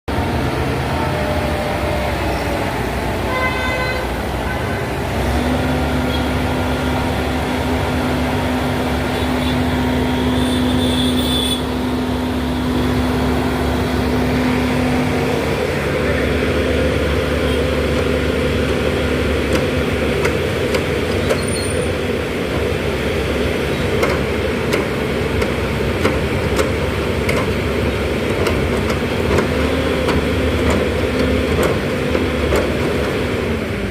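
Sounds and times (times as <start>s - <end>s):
heavy construction machinery engines: 0.0s - 33.9s
traffic: 0.0s - 33.9s.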